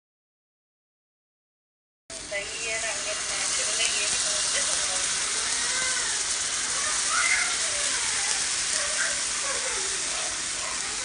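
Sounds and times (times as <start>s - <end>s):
batter sizzling on a pan: 2.1s - 11.0s.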